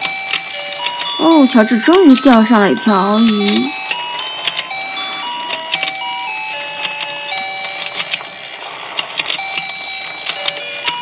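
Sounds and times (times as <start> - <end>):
toy playing electronic tune: 0.0 - 11.0.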